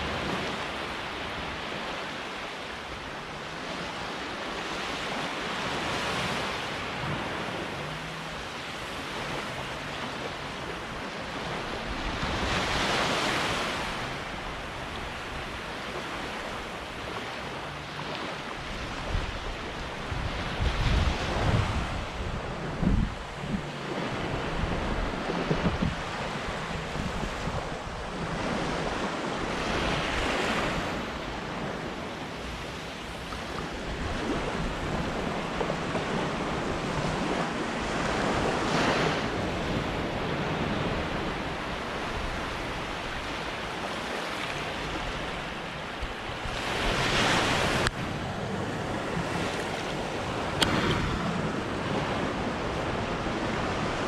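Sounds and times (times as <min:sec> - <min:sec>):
sea waves on beach: 0:00.0 - 0:54.0
wind on microphone: 0:00.0 - 0:54.0.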